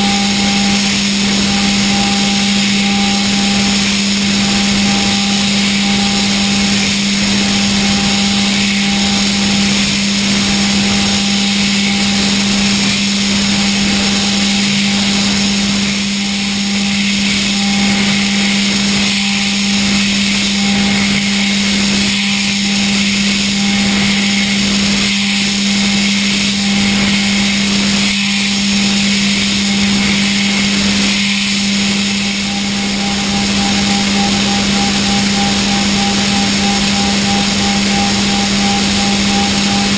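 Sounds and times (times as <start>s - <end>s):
higher machine tone: 0.0s - 39.9s
machine low hum: 0.0s - 39.9s.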